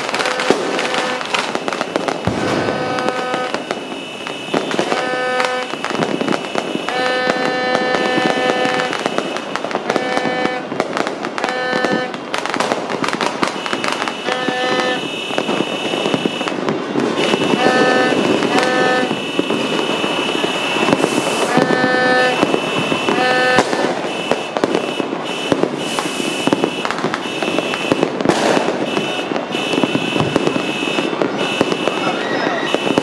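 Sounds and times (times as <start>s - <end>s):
horn blasts: 0.0s - 12.2s, 13.5s - 33.0s
fireworks crackling and banging: 0.0s - 33.0s.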